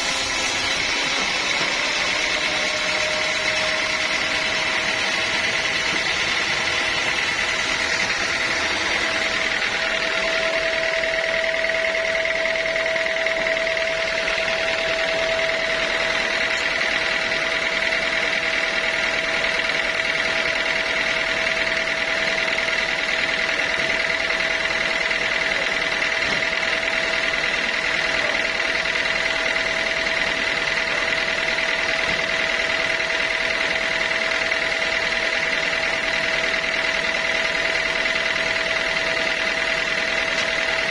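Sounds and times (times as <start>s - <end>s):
sawmill machine whine: 0.0s - 40.9s.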